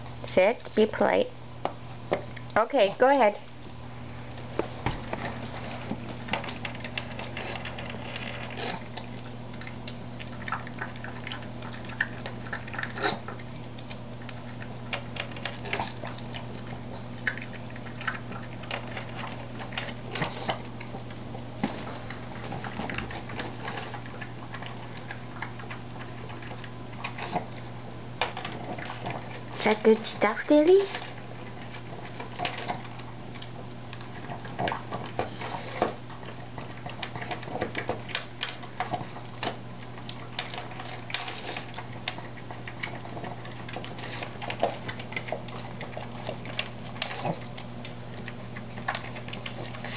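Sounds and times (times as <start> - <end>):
steady low hum: 0.0 - 49.9
dog chewing and smacking: 1.7 - 49.9.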